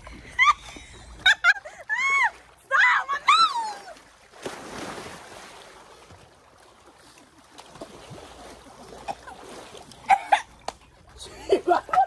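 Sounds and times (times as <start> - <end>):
pool water splashing: 0.0 - 12.0
water lapping against pool wall: 0.0 - 12.0.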